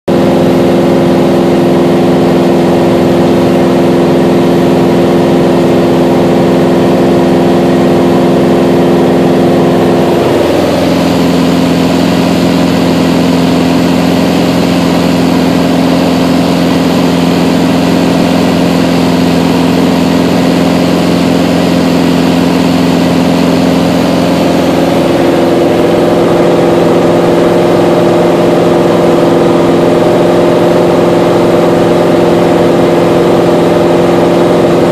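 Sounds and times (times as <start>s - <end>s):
propeller aircraft engine in cabin: 0.1s - 34.9s.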